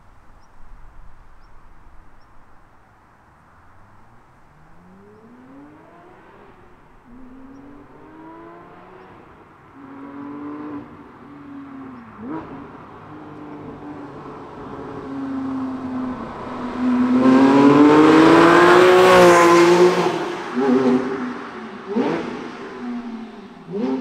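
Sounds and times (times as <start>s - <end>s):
sports car engine revving: 4.1s - 24.0s.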